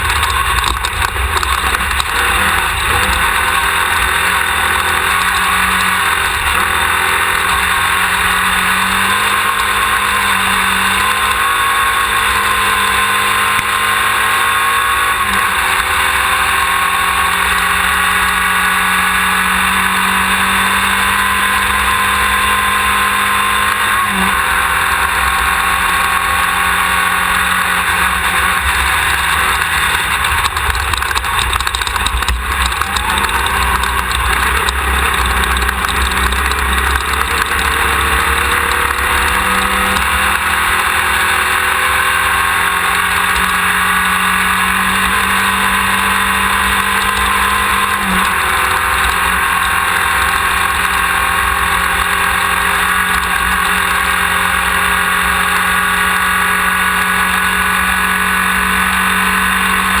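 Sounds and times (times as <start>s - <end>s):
buggy engine running hard: 0.0s - 60.0s
rumble of car over terrain: 0.0s - 60.0s.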